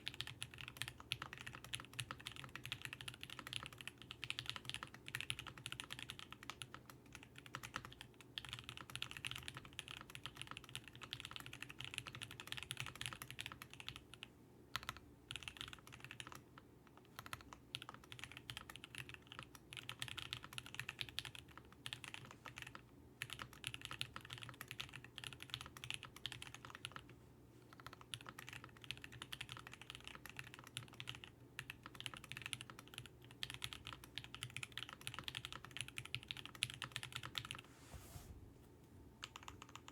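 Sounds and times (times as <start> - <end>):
mechanical keyboard typing: 0.0 - 16.4, 17.1 - 27.1, 27.7 - 37.6, 39.2 - 39.9.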